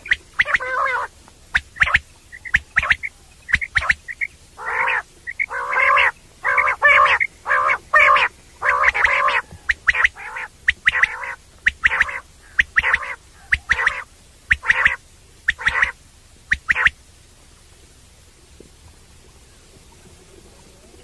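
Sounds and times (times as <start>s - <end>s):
quail calling: 0.0s - 17.0s.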